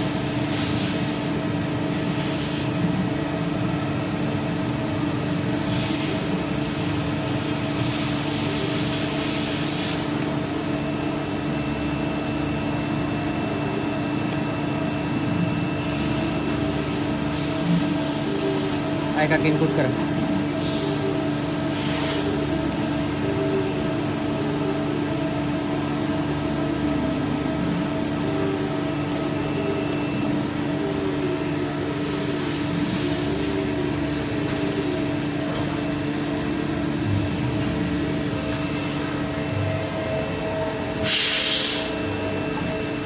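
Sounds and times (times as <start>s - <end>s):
machine humming: 0.0s - 43.0s.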